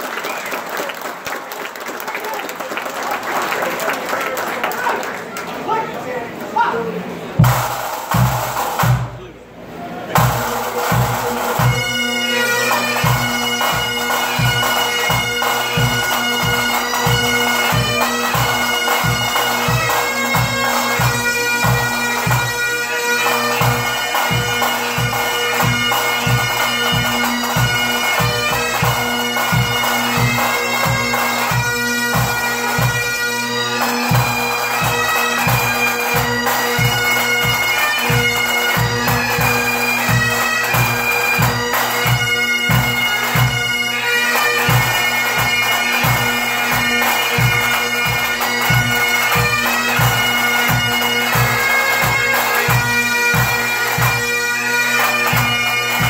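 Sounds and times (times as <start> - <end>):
bagpipes playing: 10.2 - 56.0.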